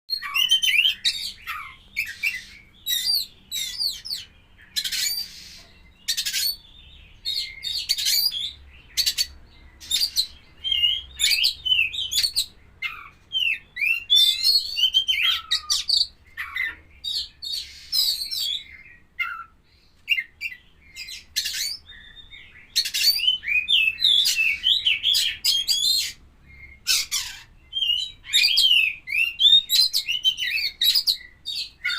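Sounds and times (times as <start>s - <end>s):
bird singing whistles: 0.1s - 6.6s, 9.8s - 19.5s, 20.1s - 27.1s, 27.7s - 31.9s.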